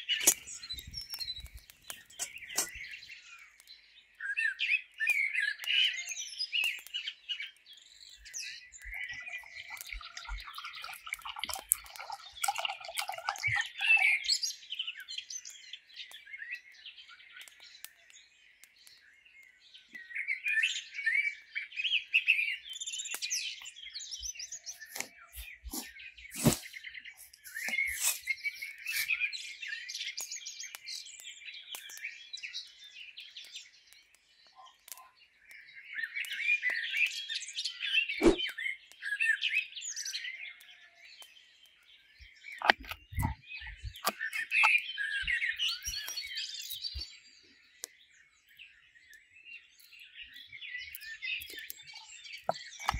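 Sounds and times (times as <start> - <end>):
songbirds chirping and singing: 0.0 - 52.9.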